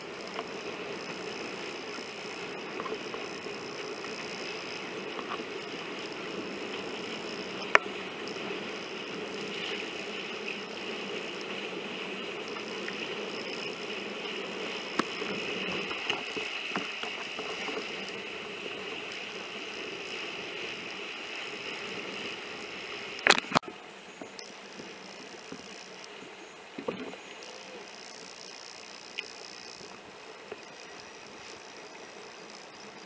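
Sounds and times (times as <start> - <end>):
small clicks: 0.0 - 11.7, 12.4 - 18.2, 21.9 - 33.0
muffled wind and water rushing: 0.0 - 33.0.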